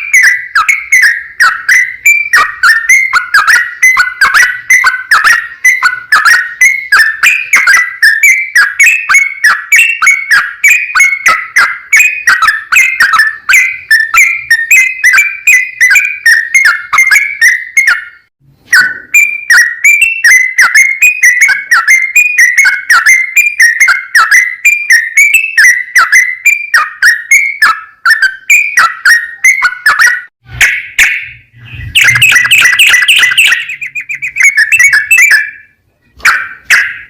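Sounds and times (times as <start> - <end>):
bulbul singing bubbling whistles: 0.0 - 37.0.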